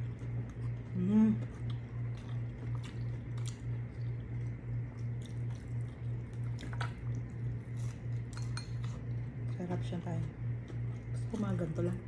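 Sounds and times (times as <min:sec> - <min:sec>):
chewing crispy food: 0:00.0 - 0:12.0
pulsing low hum: 0:00.0 - 0:12.0.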